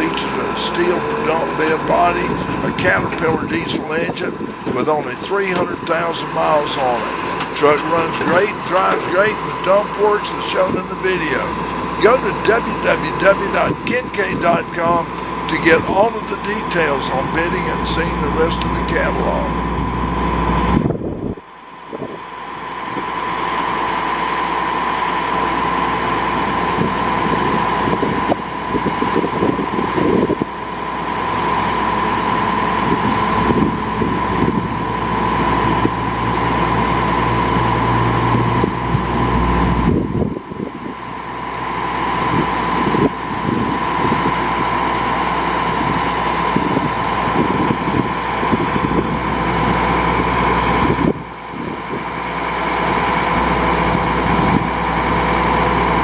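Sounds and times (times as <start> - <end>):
constant high whine: 0.0 - 56.0
diesel truck engine running: 0.0 - 56.0.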